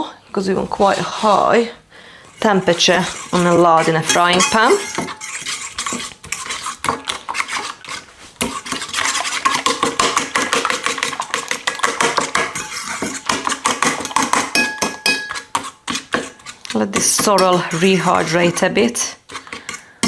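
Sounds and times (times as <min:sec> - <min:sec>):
fork beating eggs on a plate: 0:02.3 - 0:20.0.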